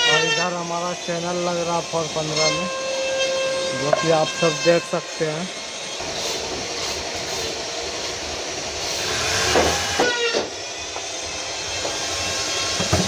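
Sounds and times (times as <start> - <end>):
power tools whirring: 0.0 - 13.0.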